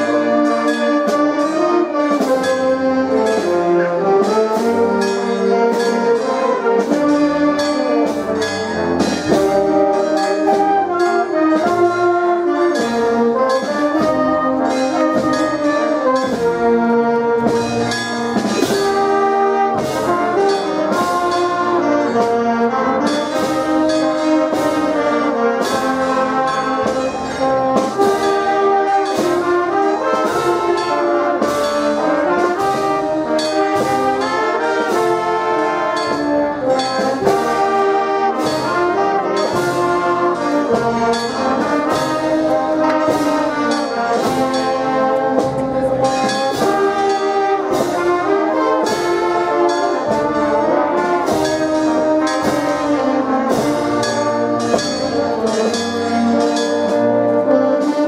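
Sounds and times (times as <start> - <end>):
brass band playing a march: 0.0 - 58.0.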